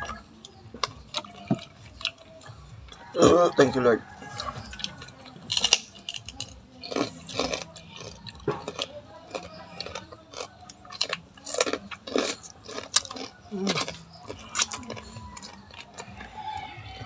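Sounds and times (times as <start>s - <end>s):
person chewing crunchy food: 0.0s - 16.8s.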